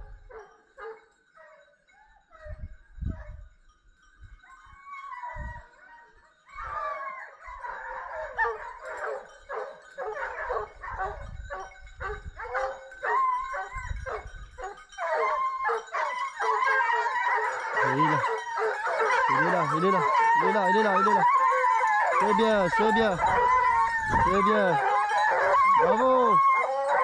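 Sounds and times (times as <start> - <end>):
hunting dogs baying and howling: 0.0 - 3.4, 4.4 - 27.0.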